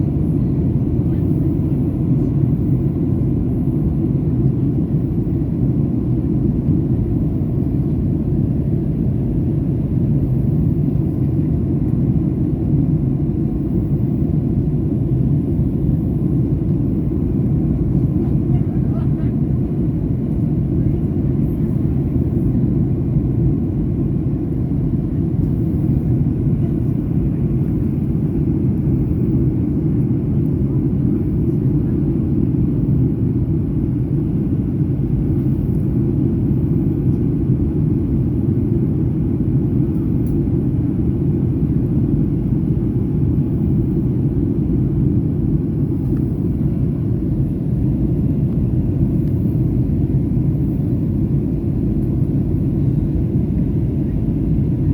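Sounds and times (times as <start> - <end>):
airplane cabin engine rumble: 0.0 - 54.9.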